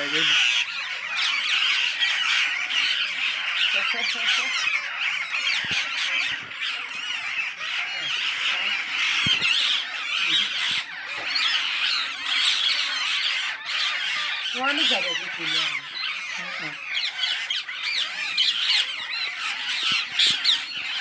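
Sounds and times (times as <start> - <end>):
parakeets squawking: 0.0 - 21.0.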